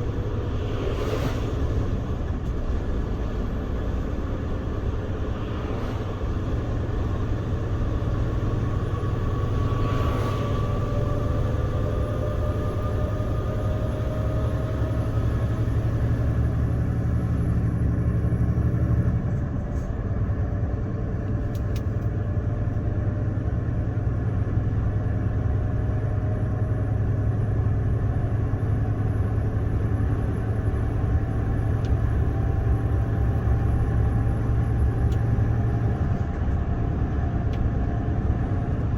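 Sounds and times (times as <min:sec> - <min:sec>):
truck diesel engine drone: 0:00.0 - 0:38.9.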